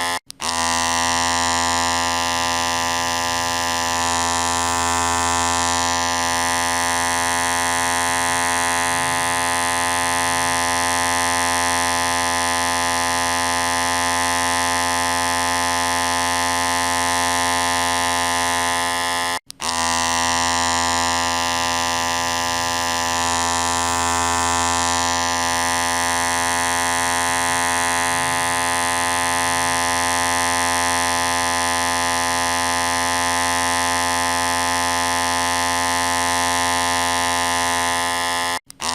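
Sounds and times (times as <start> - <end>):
electric hair clipper buzzing: 0.0 - 38.9.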